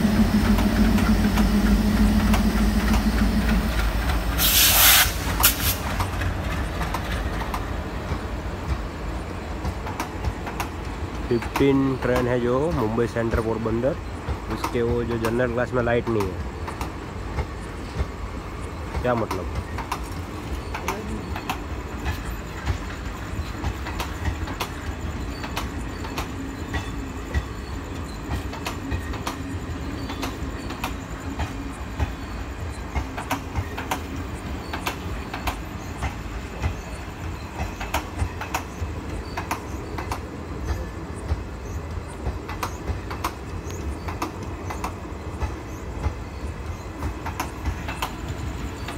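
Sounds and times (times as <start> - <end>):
train rumble: 0.0 - 48.9
train wheels clicking over rail joints: 0.0 - 48.9.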